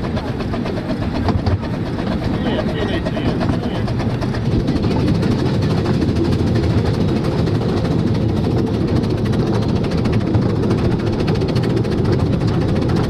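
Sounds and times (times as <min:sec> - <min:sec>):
steam train rumbling: 0:00.0 - 0:13.0.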